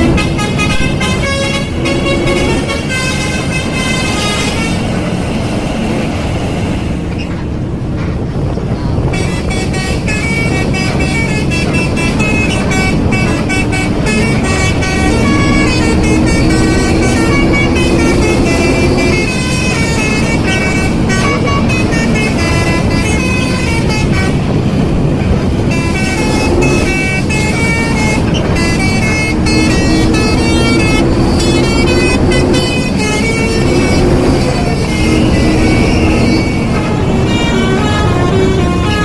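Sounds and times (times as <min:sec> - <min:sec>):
musical bus horn tune: 0:00.0 - 0:05.6, 0:09.0 - 0:39.0
low rumble: 0:00.0 - 0:38.9.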